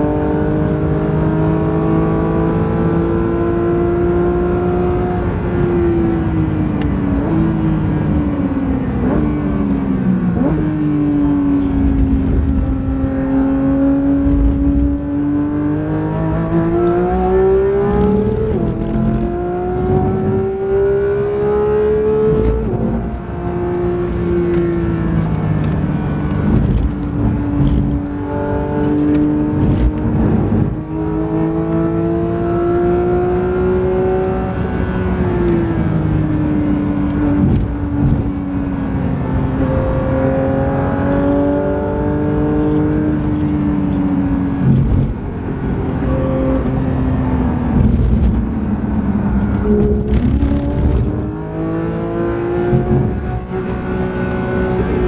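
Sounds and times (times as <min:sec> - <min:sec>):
car engine revving in cabin: 0:00.0 - 0:55.0.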